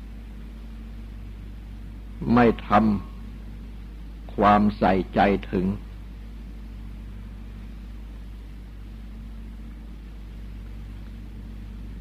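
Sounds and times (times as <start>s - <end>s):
background hiss: 0.0s - 12.0s
low electrical hum: 0.0s - 12.0s.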